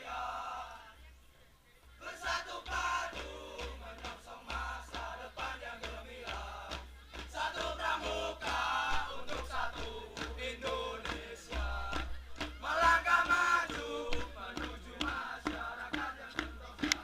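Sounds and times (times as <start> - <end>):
music with chanting voices: 0.0 - 17.0
crowd shouting: 2.0 - 17.0.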